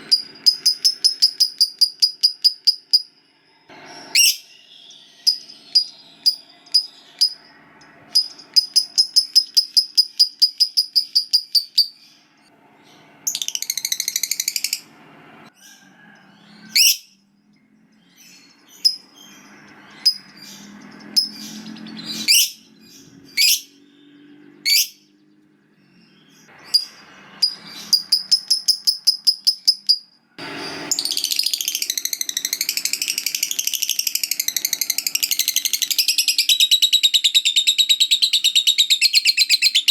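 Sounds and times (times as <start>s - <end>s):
lovebird chirping and chattering: 0.0s - 12.2s, 12.8s - 14.9s, 16.6s - 17.2s, 18.0s - 25.1s, 25.8s - 30.1s, 30.8s - 39.9s.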